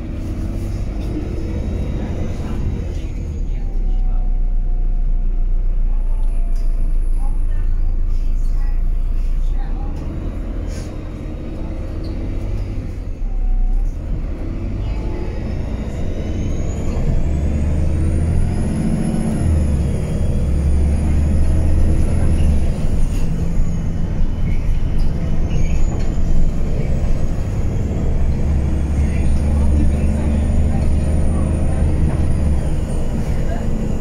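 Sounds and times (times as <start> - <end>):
bus diesel engine under load: 0.0 - 34.0.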